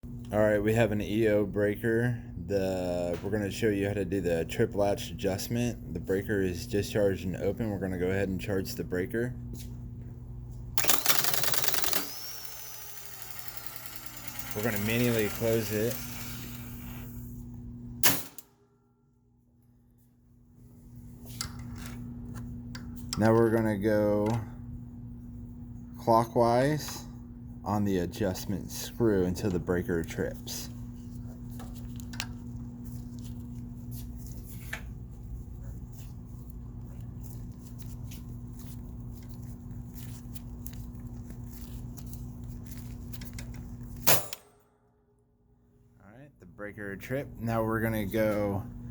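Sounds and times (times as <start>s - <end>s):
steady hum: 0.1s - 48.9s.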